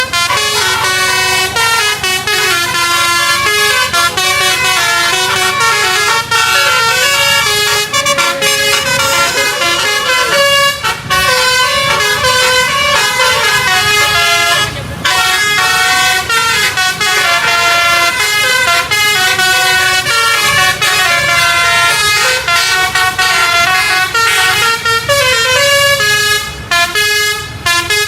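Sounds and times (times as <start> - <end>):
bus musical horn playing a tune: 0.0 - 28.0.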